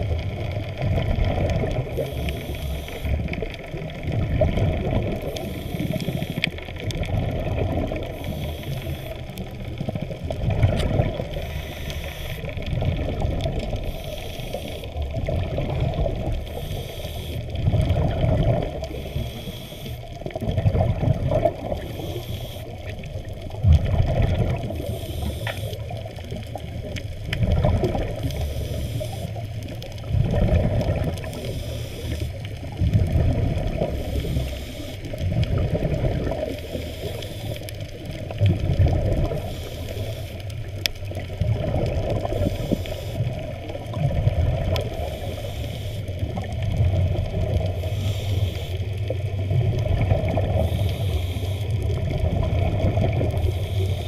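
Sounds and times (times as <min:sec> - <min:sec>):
muffled underwater water noise: 0:00.0 - 0:54.0.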